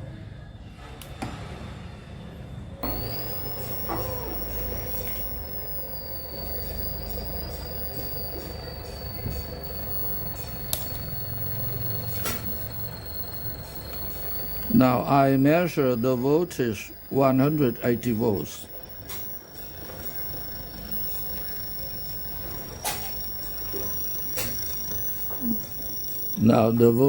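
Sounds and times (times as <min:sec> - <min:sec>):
high-pitched whine: 0:02.8 - 0:27.0
low hum: 0:02.8 - 0:27.0
sharp clicks: 0:02.8 - 0:27.0.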